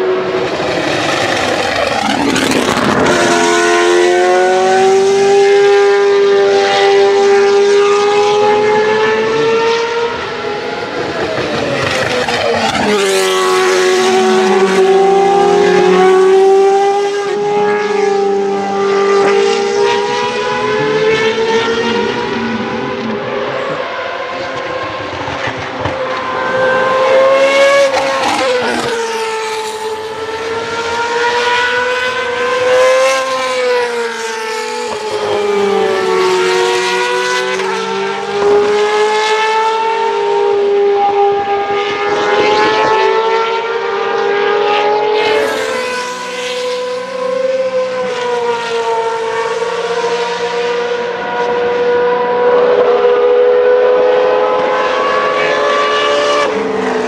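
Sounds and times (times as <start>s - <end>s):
racing cars at high revs: 0.0s - 57.0s.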